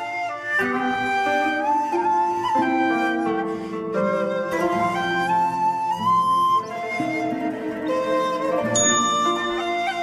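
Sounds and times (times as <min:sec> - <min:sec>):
slow instrumental music: 0:00.0 - 0:10.0.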